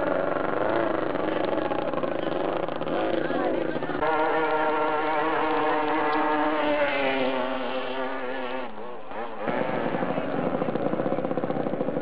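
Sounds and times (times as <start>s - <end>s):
boat engine buzzing drone: 0.0s - 12.0s.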